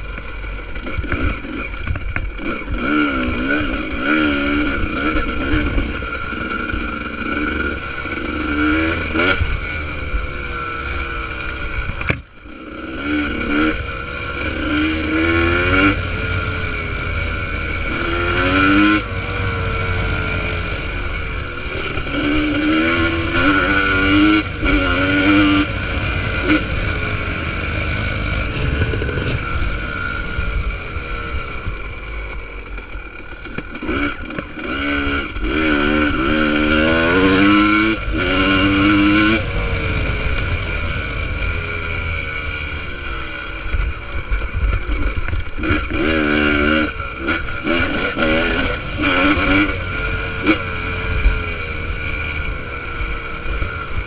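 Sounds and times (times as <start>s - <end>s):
two-stroke engine revving: 0.0s - 54.0s.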